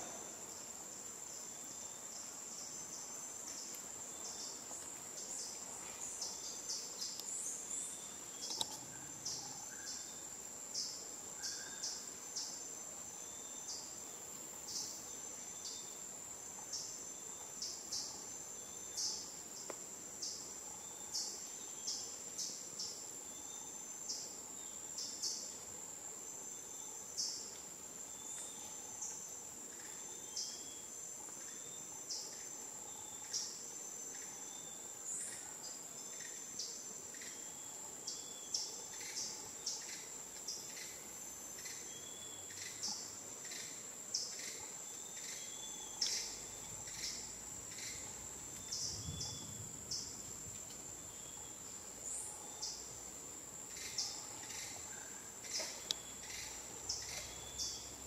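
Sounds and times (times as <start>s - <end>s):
insect high-pitched trill: 0.0s - 58.0s
insect short chirps: 1.3s - 14.0s, 16.7s - 25.5s, 26.4s - 58.0s.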